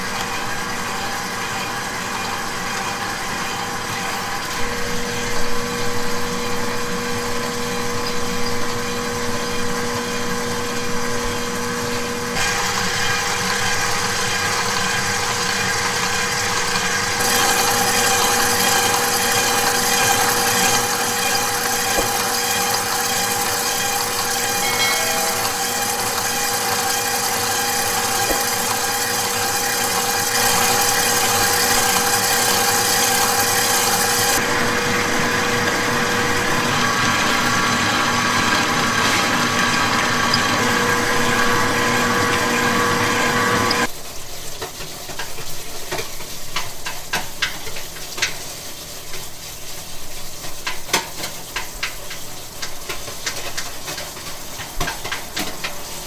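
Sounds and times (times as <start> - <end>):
stand mixer whisking batter: 0.0 - 43.9, 50.4 - 56.0.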